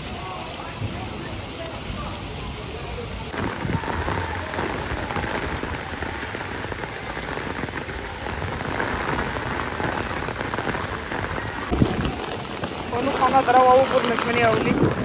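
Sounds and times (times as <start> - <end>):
heavy rain splashing on water: 0.0 - 15.0.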